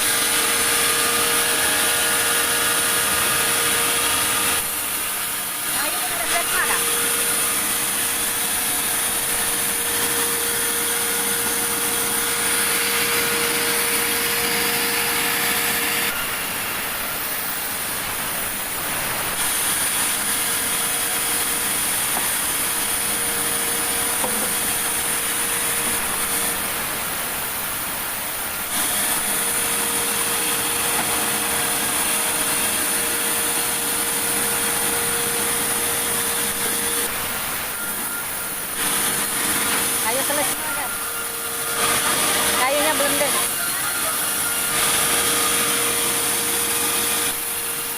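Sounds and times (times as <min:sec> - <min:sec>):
sawmill saw cutting a log: 0:00.0 - 0:47.9.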